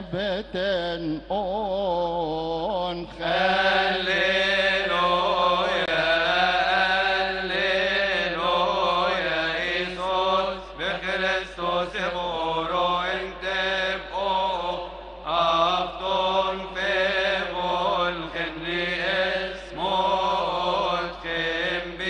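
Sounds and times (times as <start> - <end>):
man chanting a hymn: 0.0 - 22.0.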